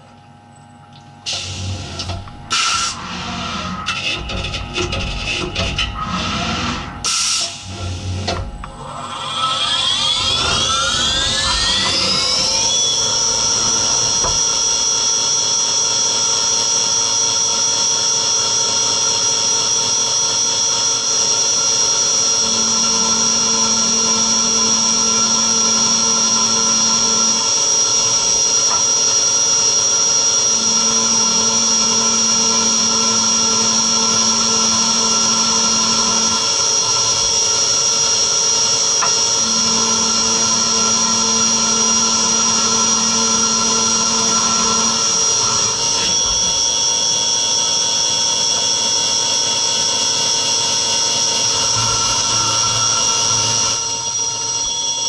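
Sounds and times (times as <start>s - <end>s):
high-pitched spindle whine: 1.6s - 55.0s.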